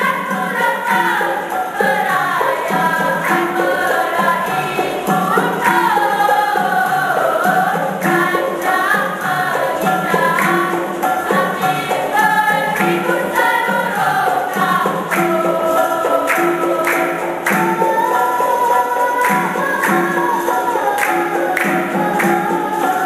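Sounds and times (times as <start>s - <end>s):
group of voices singing: 0.0s - 23.0s
sharp percussion strikes: 0.0s - 23.0s.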